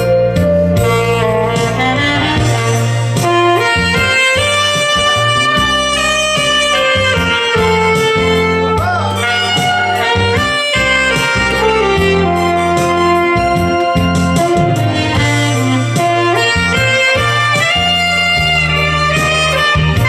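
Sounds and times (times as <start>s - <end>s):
bass and chord accompaniment: 0.0s - 20.0s
saxophone slow melody: 0.0s - 20.0s.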